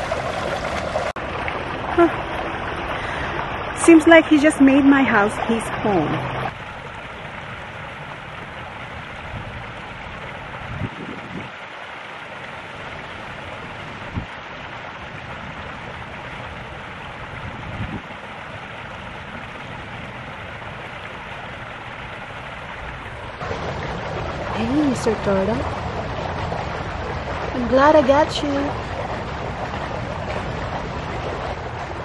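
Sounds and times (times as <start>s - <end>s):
pool jet water rushing: 0.0s - 32.0s.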